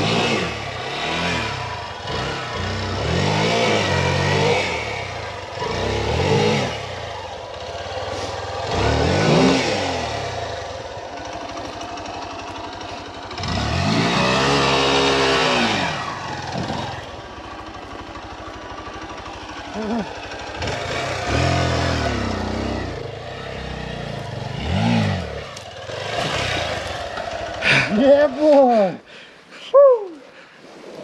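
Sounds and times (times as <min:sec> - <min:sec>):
dirt bike engine revving: 0:00.0 - 0:29.1.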